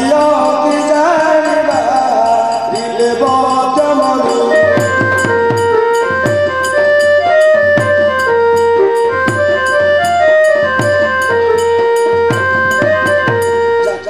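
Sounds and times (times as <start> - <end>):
drum strokes: 0.0 - 14.0
folk melody of held notes: 0.0 - 14.0.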